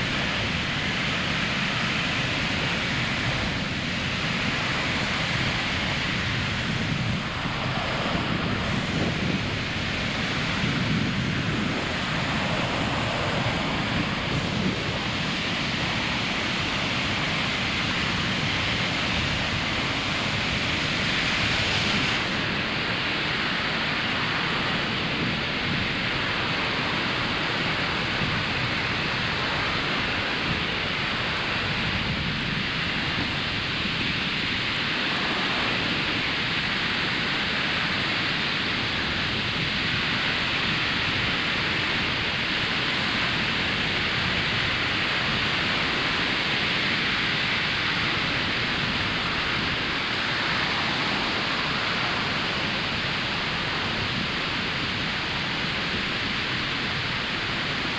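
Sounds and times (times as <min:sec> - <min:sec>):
ocean waves washing onto beach: 0:00.0 - 0:57.9.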